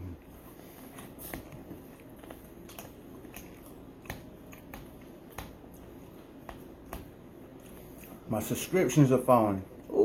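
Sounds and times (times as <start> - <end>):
low room noise: 0.0 - 10.0.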